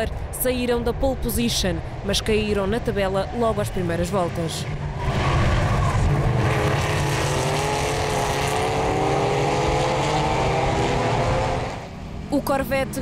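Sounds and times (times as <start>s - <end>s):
racing car engines passing: 1.9s - 13.0s
engine accelerating: 2.0s - 13.0s.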